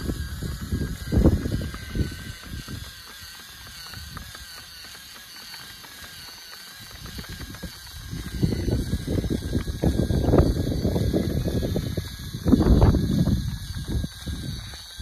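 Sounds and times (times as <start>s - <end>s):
wind on microphone: 0.0s - 4.4s, 6.8s - 15.0s
electric motor whining: 0.0s - 15.0s.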